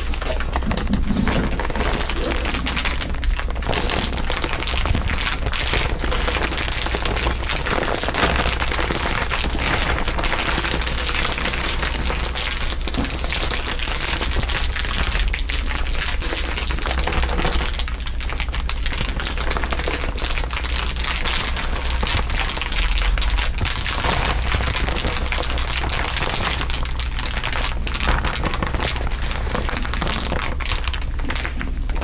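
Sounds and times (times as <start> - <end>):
dense crackle of fine clicks: 0.0 - 32.0.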